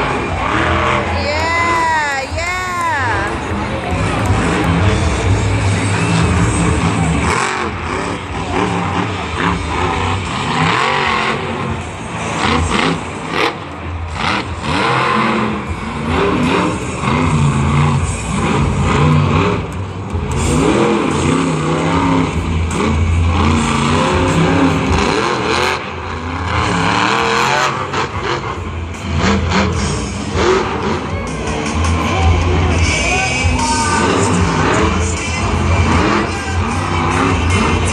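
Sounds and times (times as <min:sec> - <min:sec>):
truck engine revving hard: 0:00.0 - 0:37.9.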